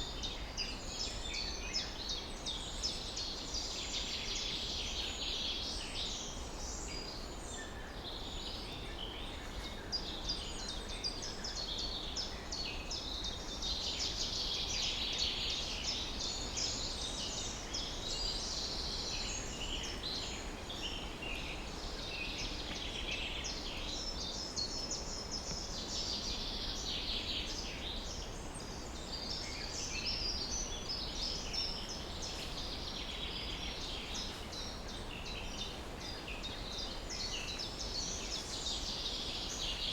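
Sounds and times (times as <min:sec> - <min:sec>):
songbirds chirping and trilling: 0:04.2 - 0:39.9.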